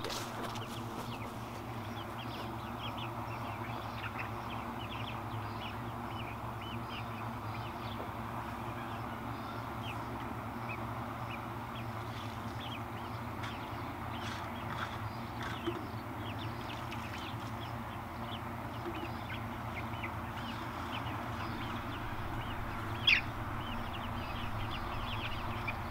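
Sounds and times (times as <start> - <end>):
chickens chirping: 0.0 - 25.9.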